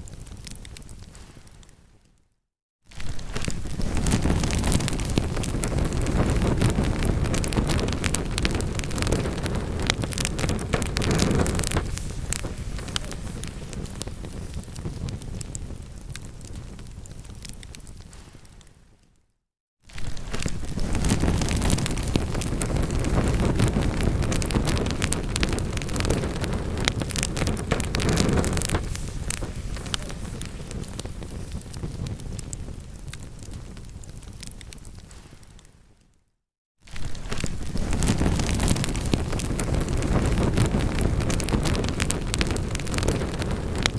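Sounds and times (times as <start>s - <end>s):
wood fire crackling and popping: 0.0s - 1.8s, 2.9s - 18.8s, 19.9s - 36.1s, 36.9s - 43.9s
low rumble of burning logs: 3.0s - 18.8s, 19.9s - 35.7s, 36.9s - 43.9s.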